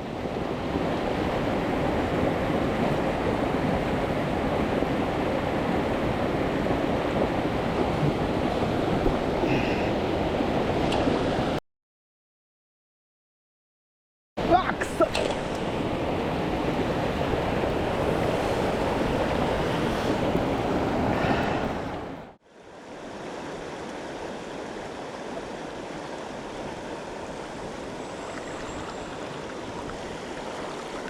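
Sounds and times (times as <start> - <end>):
rushing stream water: 0.0 - 11.6, 14.4 - 31.0.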